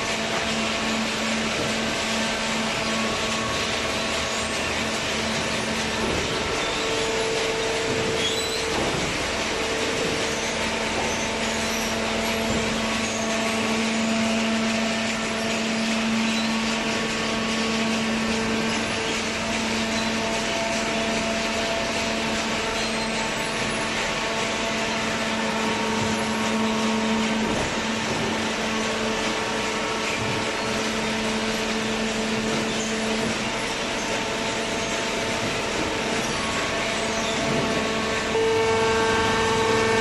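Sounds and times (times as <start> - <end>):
baler motor hum and whir: 0.0 - 40.0.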